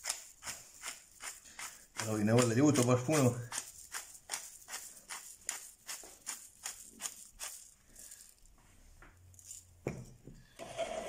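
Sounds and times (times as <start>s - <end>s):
pepper mill grinding: 0.0s - 8.5s, 9.3s - 9.8s.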